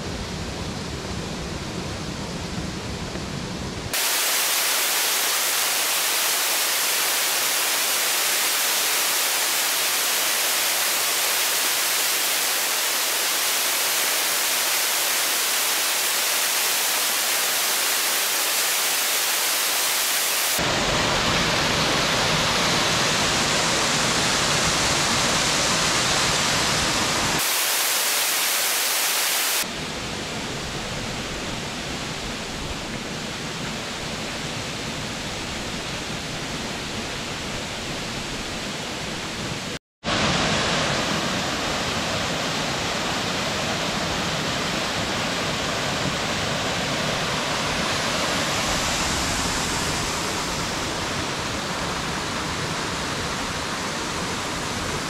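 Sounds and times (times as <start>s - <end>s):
waterfall rushing: 3.9s - 55.0s.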